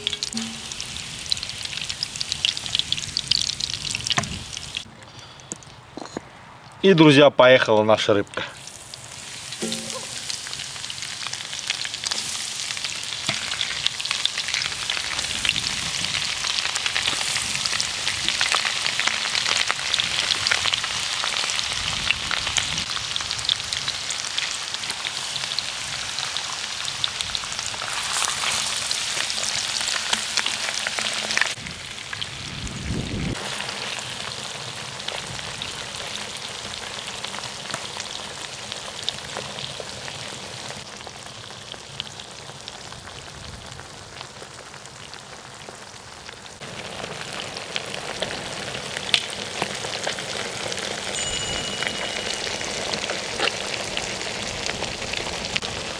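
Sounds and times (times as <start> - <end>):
fish sizzling in hot oil: 0.0 - 4.9, 8.6 - 55.9.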